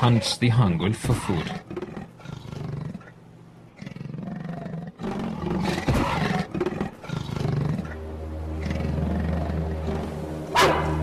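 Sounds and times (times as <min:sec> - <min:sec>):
leopard growling: 0:00.0 - 0:11.0
low droning background music: 0:00.0 - 0:11.0.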